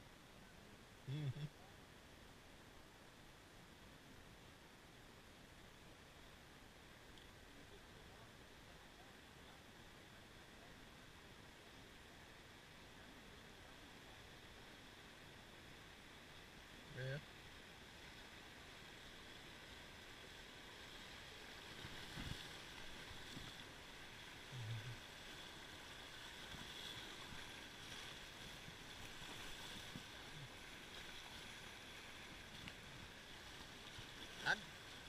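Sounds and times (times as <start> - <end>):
river water over rocks: 0.0 - 35.0.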